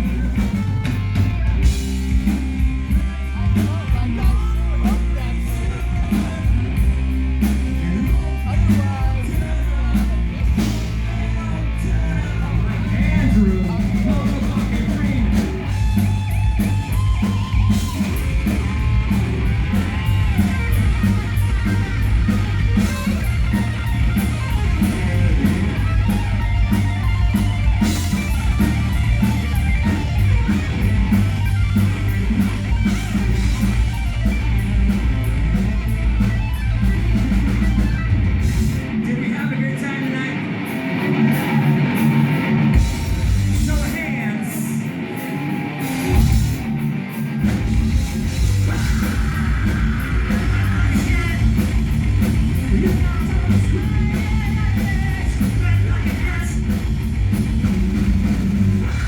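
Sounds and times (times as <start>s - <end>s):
bass: 0.0s - 59.0s
drums: 0.0s - 59.0s
electric guitar: 0.0s - 59.0s.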